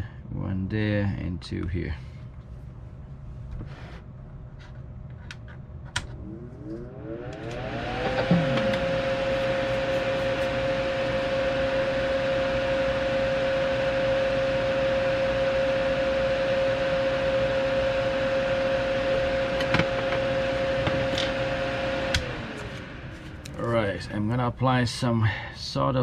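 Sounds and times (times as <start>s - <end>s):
electric fan whirring: 1.5s - 25.2s.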